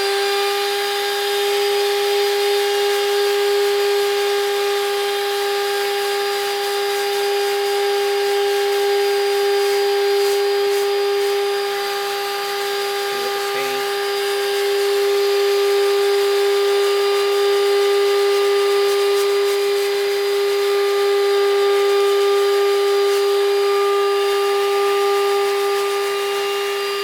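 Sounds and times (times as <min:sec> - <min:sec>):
spot cleaner motor whine: 0:00.0 - 0:27.0.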